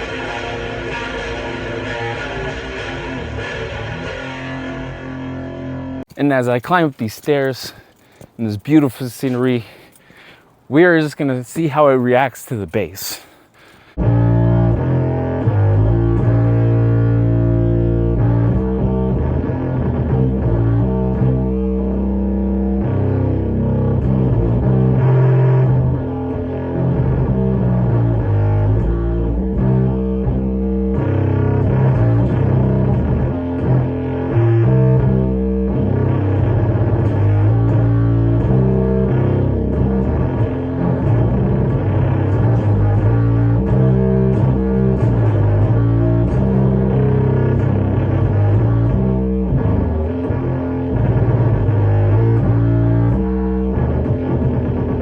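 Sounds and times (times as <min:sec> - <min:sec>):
fuzz-distorted bass guitar notes: 0:00.0 - 0:06.6, 0:13.9 - 0:55.0.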